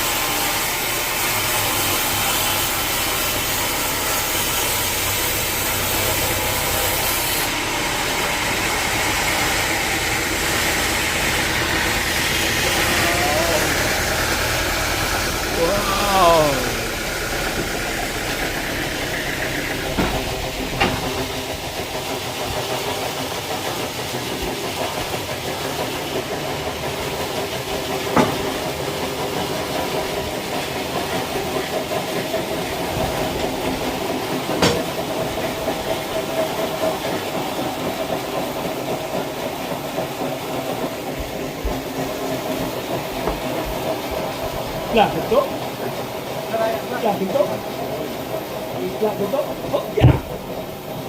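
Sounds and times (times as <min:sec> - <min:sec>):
sawmill machinery humming: 0:00.0 - 0:51.0.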